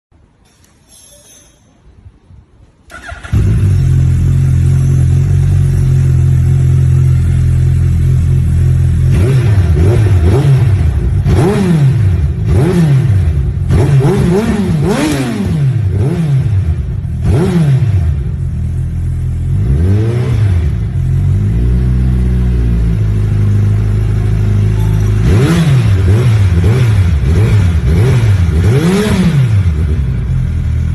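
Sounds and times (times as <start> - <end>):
motorcycle engine idling and revving: 2.9 - 30.9.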